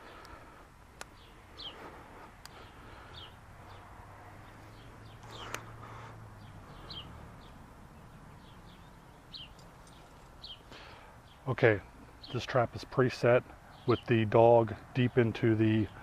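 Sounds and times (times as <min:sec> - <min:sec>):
bird chirping: 0:01.0 - 0:16.0.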